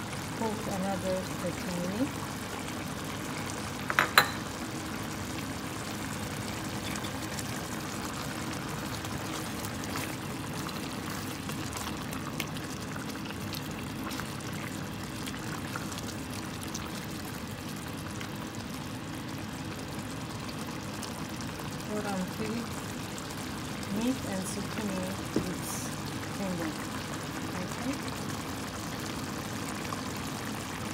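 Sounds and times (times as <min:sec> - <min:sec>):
stew bubbling in a pot: 0:00.0 - 0:30.9.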